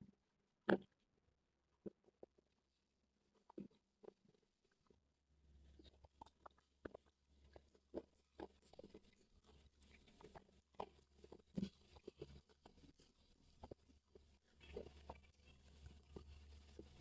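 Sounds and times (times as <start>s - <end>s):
crunchy chewing: 3.3s - 17.0s.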